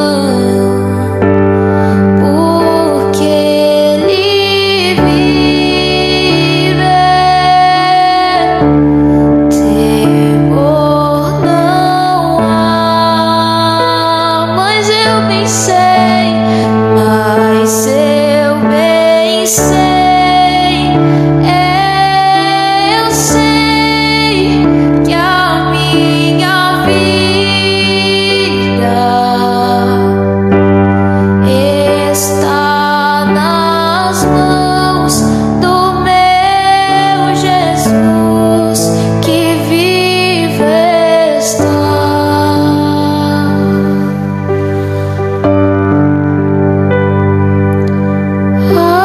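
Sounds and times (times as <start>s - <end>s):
woman singing with vibrato: 0.0s - 8.9s, 9.5s - 30.4s, 31.1s - 44.8s, 48.6s - 49.0s
slow soft worship music: 0.0s - 49.0s
sustained keyboard chords: 0.0s - 49.0s.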